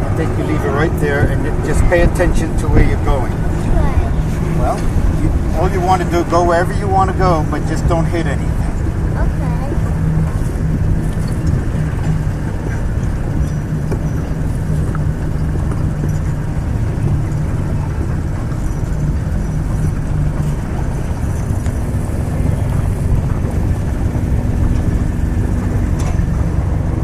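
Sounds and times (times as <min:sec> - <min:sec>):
motorboat engine running: 0:00.0 - 0:27.0.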